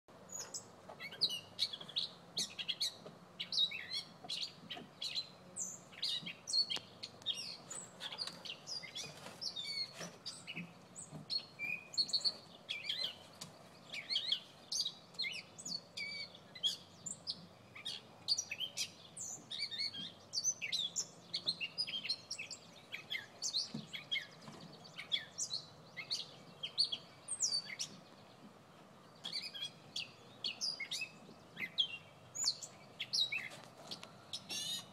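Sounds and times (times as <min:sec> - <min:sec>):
small bird chirping: 0:00.2 - 0:34.9.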